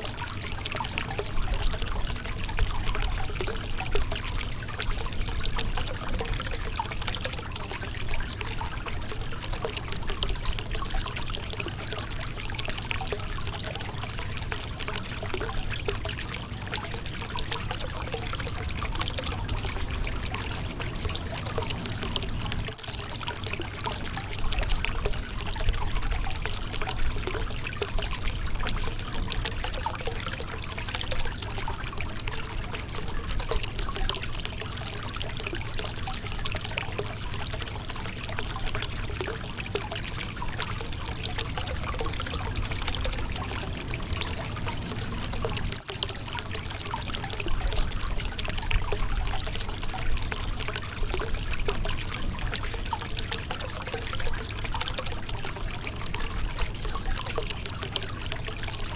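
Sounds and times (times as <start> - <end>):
river water over rocks: 0.0 - 58.9.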